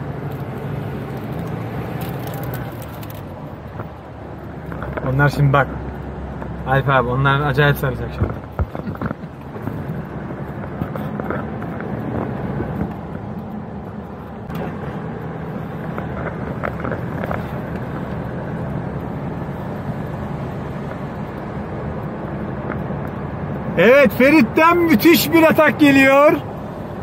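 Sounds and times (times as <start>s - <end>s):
car engine running: 0.0s - 27.0s
road and tyre noise: 0.0s - 27.0s.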